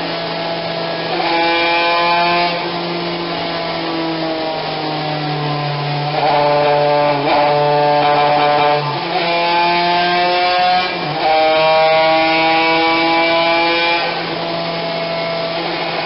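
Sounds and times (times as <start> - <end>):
two-stroke kart engine running: 0.0 - 16.0.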